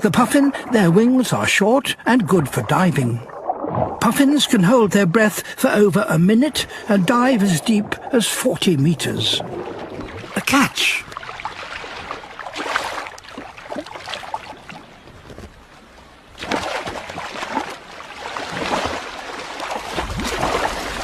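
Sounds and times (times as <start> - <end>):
sea water sloshing and splashing: 0.0 - 21.0.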